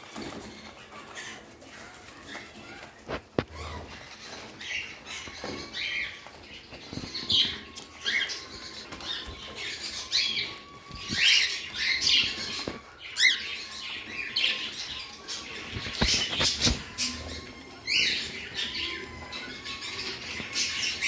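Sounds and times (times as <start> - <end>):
budgerigars chirping and squawking: 0.2 - 21.0.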